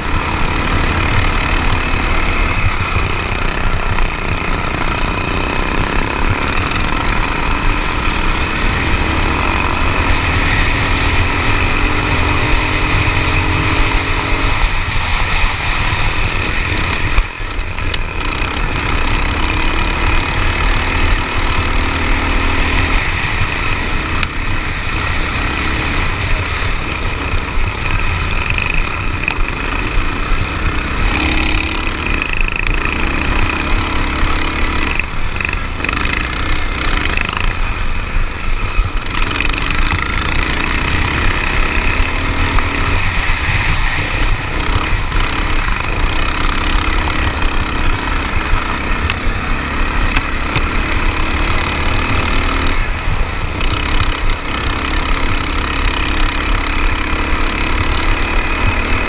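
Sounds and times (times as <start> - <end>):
lawn mower engine revving: 0.0 - 59.0.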